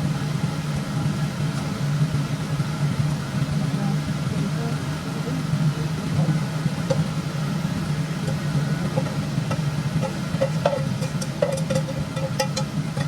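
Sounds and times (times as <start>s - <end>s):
steady low hum: 0.0s - 13.0s
food sizzling in a pan: 2.4s - 13.0s.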